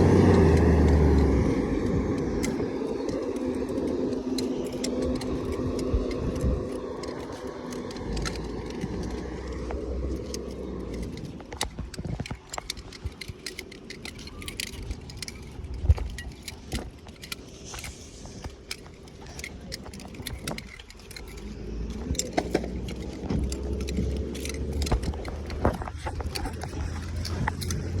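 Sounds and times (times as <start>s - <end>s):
bus engine drone: 0.0s - 28.0s
sharp rattles and clicks: 0.0s - 28.0s.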